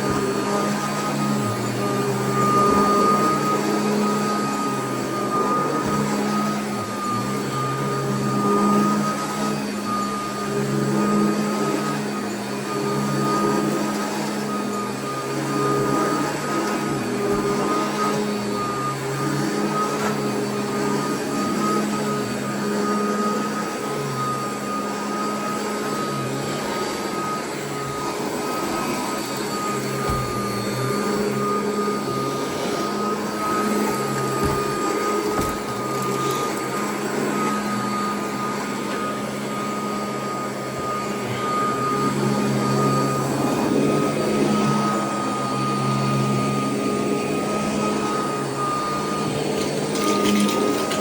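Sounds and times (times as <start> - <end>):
vacuum cleaner running on carpet: 0.0 - 51.0.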